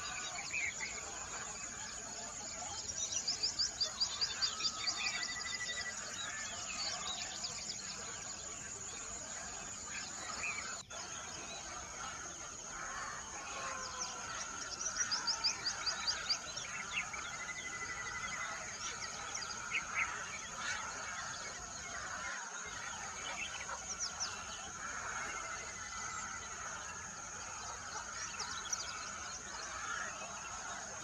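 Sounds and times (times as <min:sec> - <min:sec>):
small birds chirping and trilling: 0:00.0 - 0:31.0.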